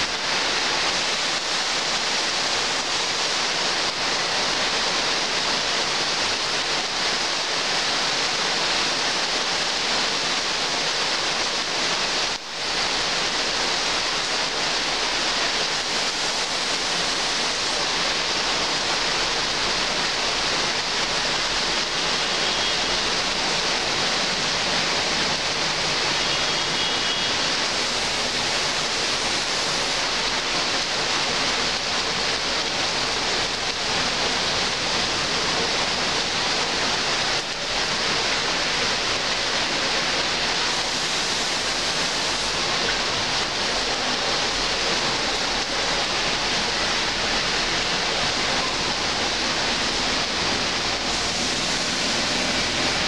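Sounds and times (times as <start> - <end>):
heavy rain on foliage: 0.0 - 53.0.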